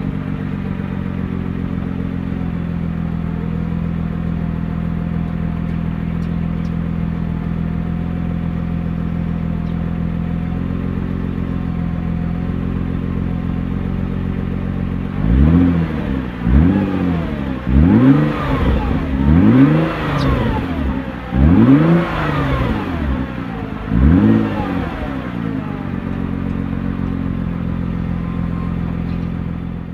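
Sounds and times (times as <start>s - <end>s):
car exhaust idling and revving: 0.0s - 29.9s.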